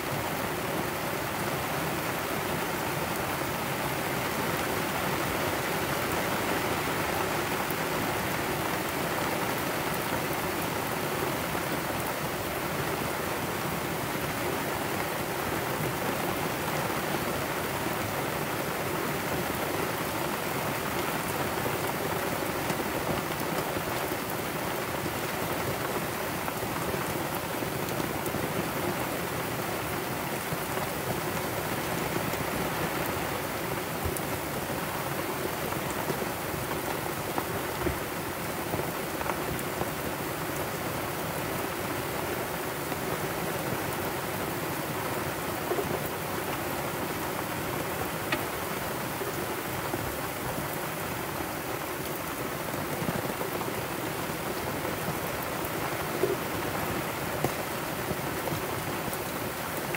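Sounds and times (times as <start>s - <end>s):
heavy rain on deck and canvas: 0.0s - 59.9s.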